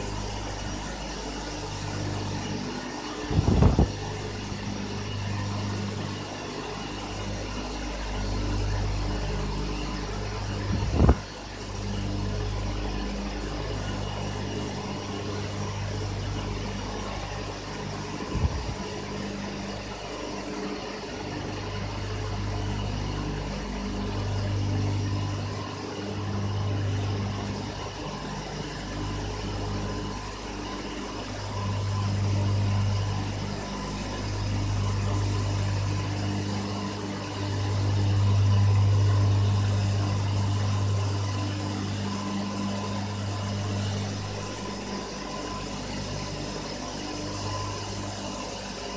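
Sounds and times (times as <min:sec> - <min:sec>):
turbine machinery drone: 0:00.0 - 0:48.9.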